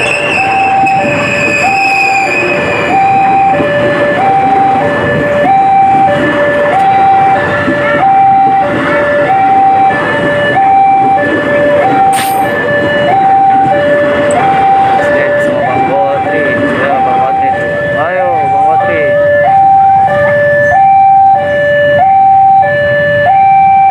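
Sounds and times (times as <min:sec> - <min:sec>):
electric train passing: 0:00.0 - 0:23.2
level crossing two-tone alarm: 0:00.0 - 0:23.9.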